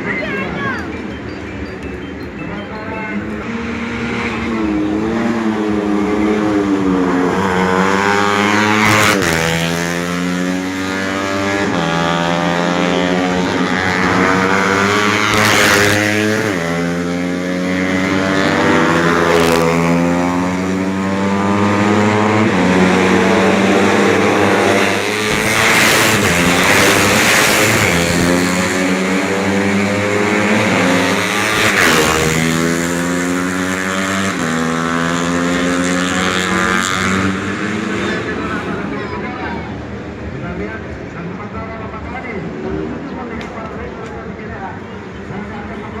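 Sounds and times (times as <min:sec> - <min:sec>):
motorcycle engine at full throttle: 0:03.4 - 0:41.6.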